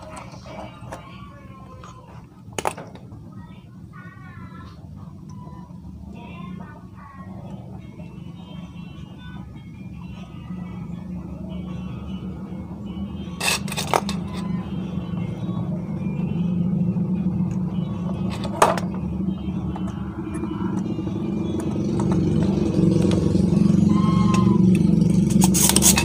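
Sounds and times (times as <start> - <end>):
low steady drone: 0.0 - 26.0.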